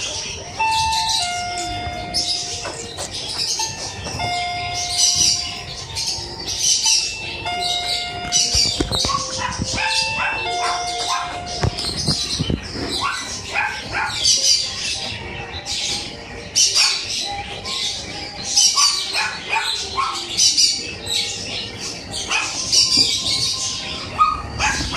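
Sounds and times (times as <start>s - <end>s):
puppies yipping and barking: 0.0s - 24.9s.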